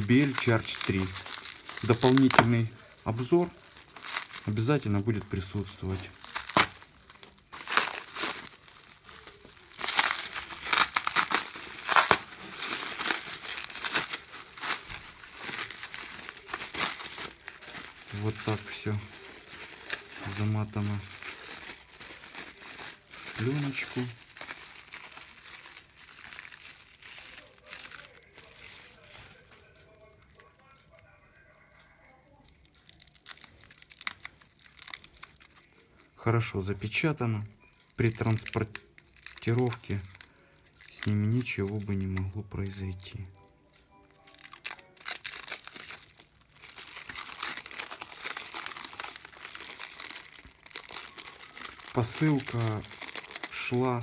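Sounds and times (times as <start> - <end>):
bubble wrap crinkling: 0.0 - 54.0.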